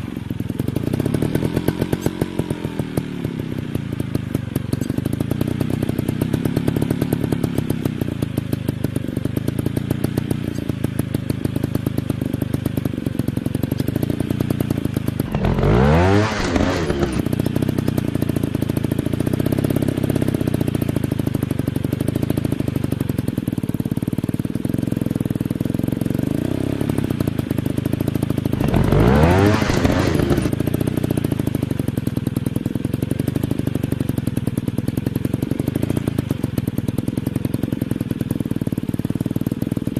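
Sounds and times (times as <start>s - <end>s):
dirt bike engine idling and revving: 0.0s - 39.9s.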